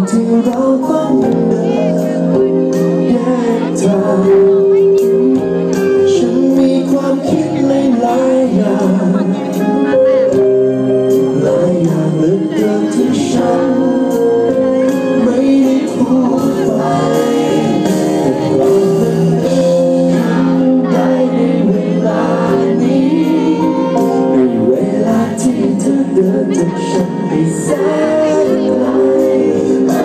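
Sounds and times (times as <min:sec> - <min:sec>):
live band playing pop song: 0:00.0 - 0:30.0
man singing into microphone: 0:00.0 - 0:30.0.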